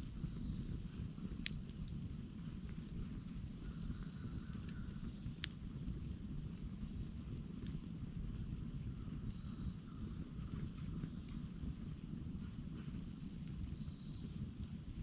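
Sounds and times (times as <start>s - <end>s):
campfire burning: 0.0s - 15.0s
fire popping: 0.0s - 15.0s.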